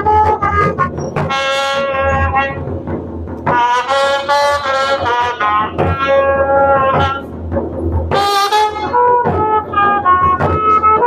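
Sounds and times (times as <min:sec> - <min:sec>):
low pulsing beat: 0:00.0 - 0:11.0
wind instrument melody: 0:00.0 - 0:11.0.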